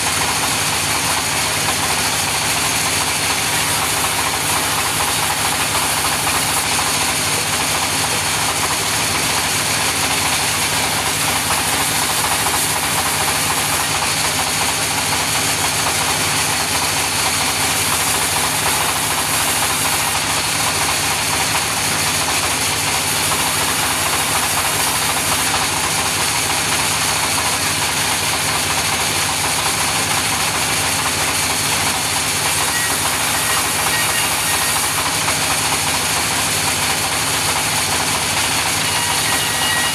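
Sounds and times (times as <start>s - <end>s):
saw cutting through log: 0.0s - 39.9s
sawmill machine hum: 0.0s - 39.9s.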